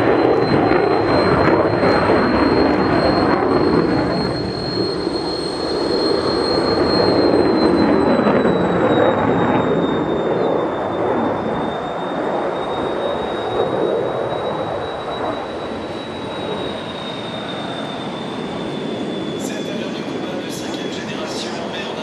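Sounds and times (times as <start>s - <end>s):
high whine: 0.0s - 22.0s
jet engine rumble: 0.0s - 22.0s.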